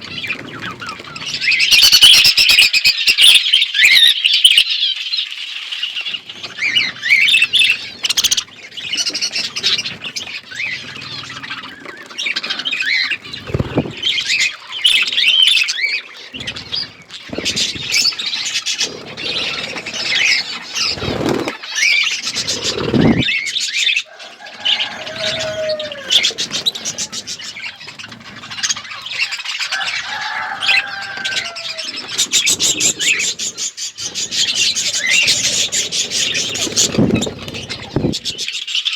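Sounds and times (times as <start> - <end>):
wings flapping: 0.0 - 2.7, 5.6 - 38.6
budgerigars chirping: 0.0 - 38.9.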